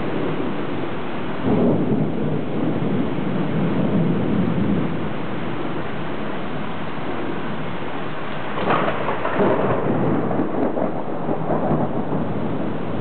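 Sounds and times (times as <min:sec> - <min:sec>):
rain hissing: 0:00.0 - 0:13.0
thunder rolling: 0:00.0 - 0:13.0.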